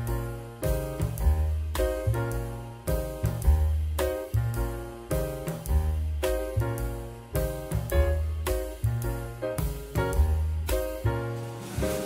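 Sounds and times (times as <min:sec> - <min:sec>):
heavy bass line: 0:00.0 - 0:12.0.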